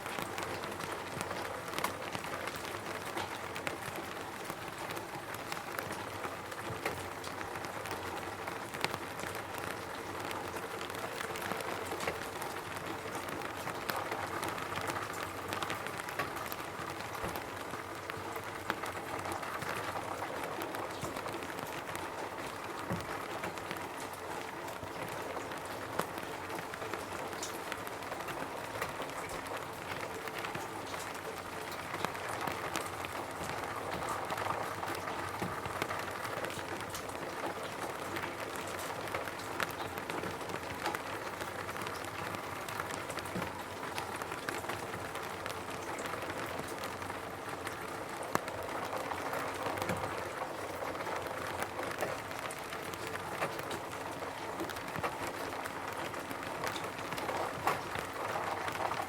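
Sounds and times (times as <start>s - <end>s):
rain on a roof: 0.0s - 59.0s
raindrops ticking: 0.0s - 59.0s.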